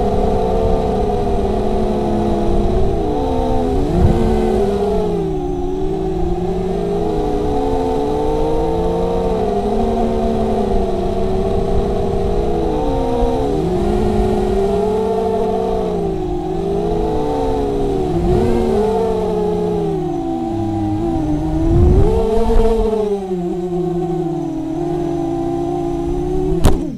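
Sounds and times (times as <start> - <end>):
low rumble: 0.0 - 26.8
drone motors whining: 0.0 - 26.9.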